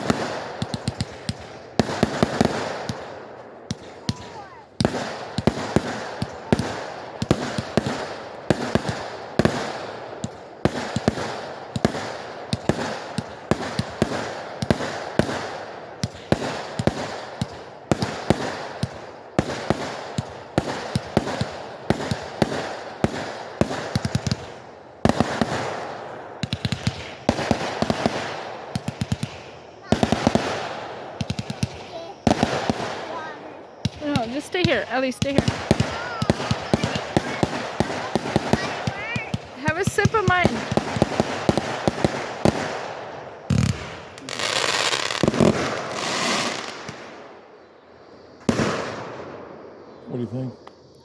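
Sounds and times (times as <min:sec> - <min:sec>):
fireworks bangs: 0:00.0 - 0:50.8
fireworks crackling: 0:00.0 - 0:51.0.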